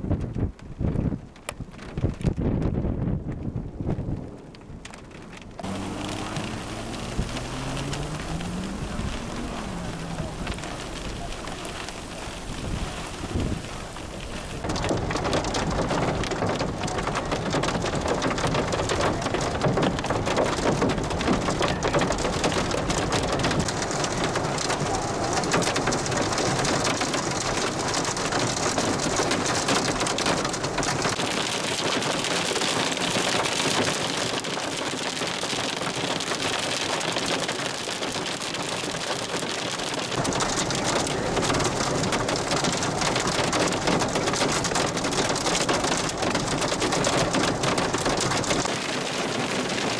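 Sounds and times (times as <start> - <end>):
hail hitting a vehicle roof: 3.3 - 49.9.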